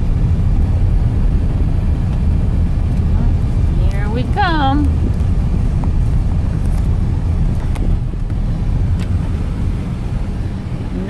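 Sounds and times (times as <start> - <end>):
truck driving on gravel: 0.0 - 11.0.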